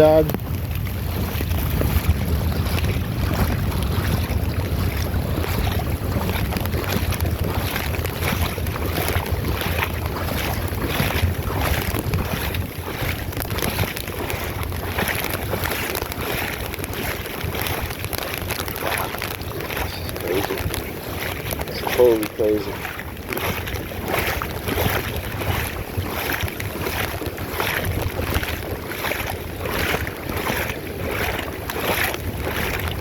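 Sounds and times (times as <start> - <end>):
rushing splashing floodwater: 0.0 - 33.0
wind buffeting microphone: 0.0 - 33.0.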